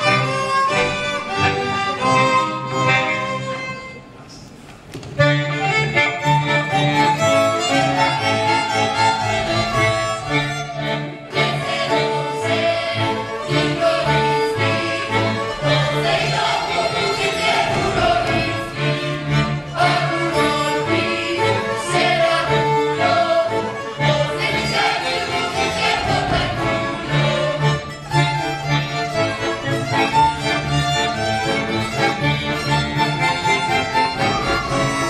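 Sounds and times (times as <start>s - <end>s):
accordion: 0.0s - 4.1s, 5.2s - 35.0s
folk dance tune on fiddles: 0.0s - 4.1s, 5.2s - 35.0s.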